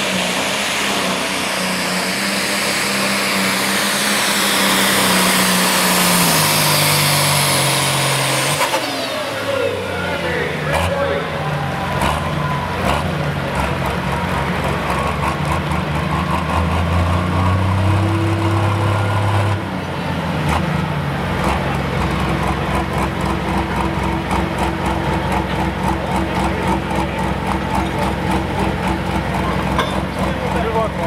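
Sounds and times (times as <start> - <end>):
pulling tractor engine running: 0.0 - 31.0.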